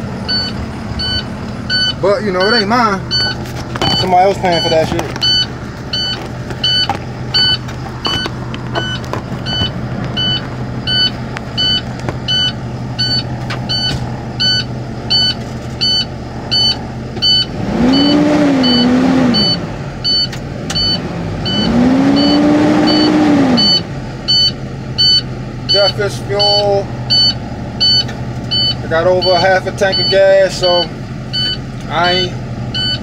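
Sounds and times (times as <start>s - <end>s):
diesel truck engine idling: 0.0s - 33.0s
engine revving: 0.0s - 33.0s
dashboard warning alarm beeping: 0.2s - 31.6s, 32.2s - 33.0s.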